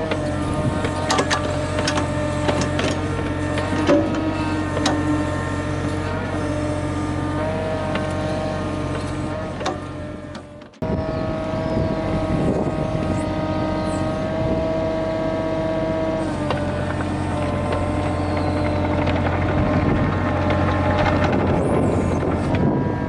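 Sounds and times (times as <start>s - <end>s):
excavator diesel engine running: 0.0s - 23.0s
hydraulic whining tones: 0.0s - 23.0s.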